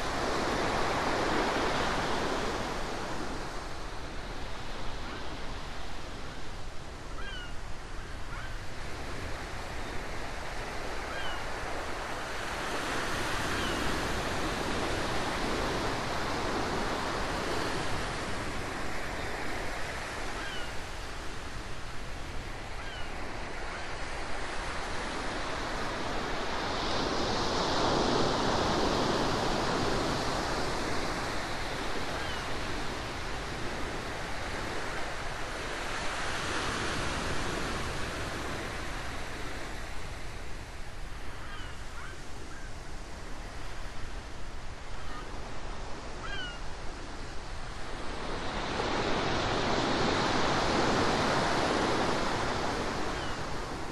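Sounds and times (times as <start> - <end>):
ocean waves washing on shore: 0.0 - 53.9.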